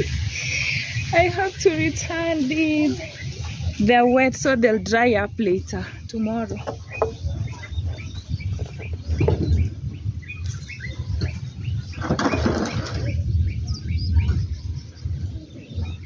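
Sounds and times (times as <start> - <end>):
low buffeting rumble: 0.0 - 16.0
small birds chirping: 0.0 - 16.0.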